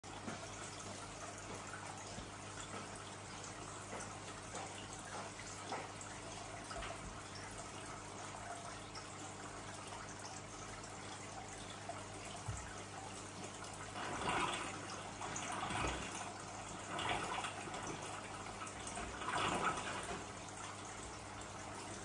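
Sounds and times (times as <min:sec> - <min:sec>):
aquarium water trickling: 0:00.0 - 0:22.0.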